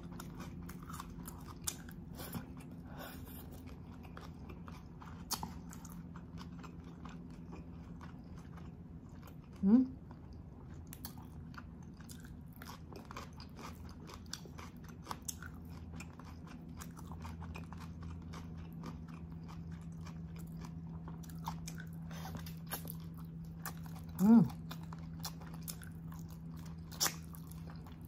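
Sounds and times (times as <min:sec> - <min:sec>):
low steady hum: 0:00.0 - 0:28.0
wet chewing: 0:00.0 - 0:28.0.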